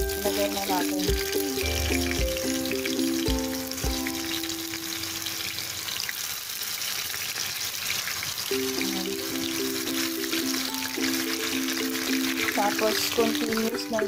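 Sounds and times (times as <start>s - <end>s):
deep-frying crackling sizzle: 0.0s - 14.0s.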